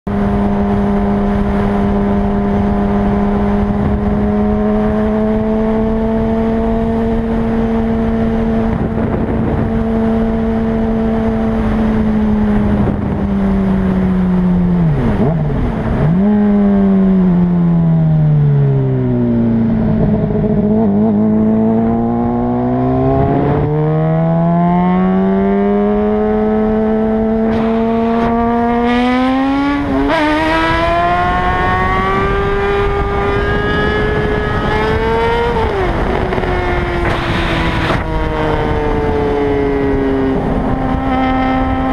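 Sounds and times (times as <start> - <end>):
motorcycle engine revving: 0.1 - 41.9
wind rushing over microphone: 0.1 - 41.9.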